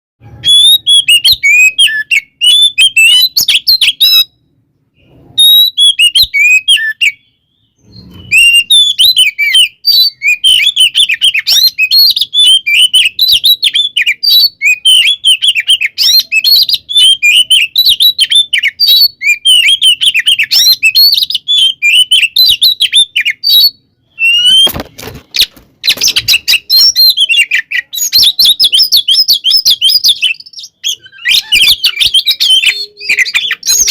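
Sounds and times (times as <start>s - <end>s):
songbird singing: 0.2s - 33.9s.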